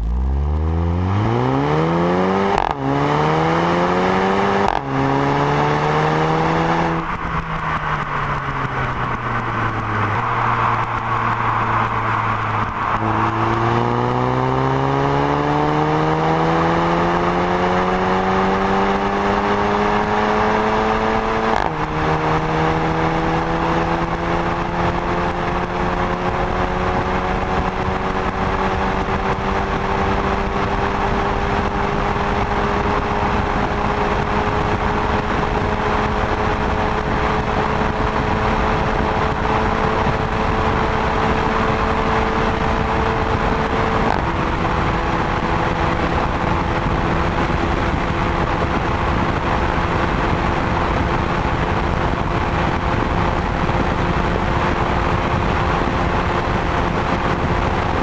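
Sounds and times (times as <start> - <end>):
car engine accelerating: 0.0 - 58.0
wind and tyre noise: 0.0 - 58.0.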